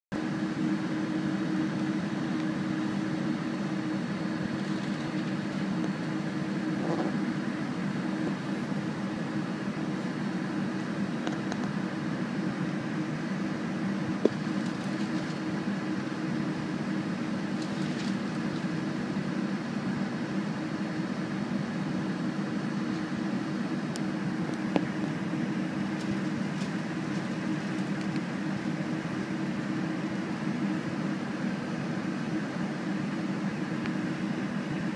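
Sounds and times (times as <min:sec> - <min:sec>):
air conditioning humming: 0:00.1 - 0:34.9
aircraft engines idling: 0:00.1 - 0:34.9.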